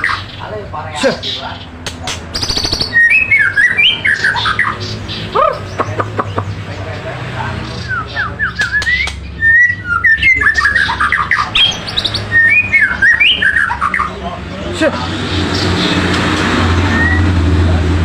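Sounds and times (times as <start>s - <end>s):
songbird singing: 0.0s - 17.8s.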